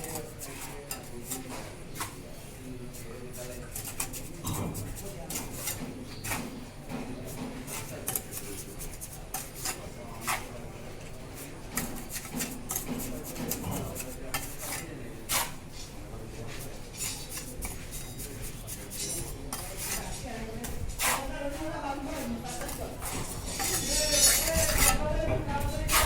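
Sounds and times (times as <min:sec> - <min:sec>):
trowel scraping on bricks: 0:00.0 - 0:25.0, 0:25.7 - 0:26.0.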